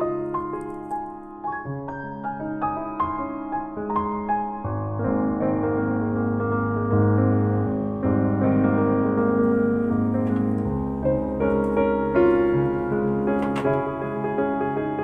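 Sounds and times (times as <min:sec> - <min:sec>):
instrumental piano music: 0:00.0 - 0:15.0.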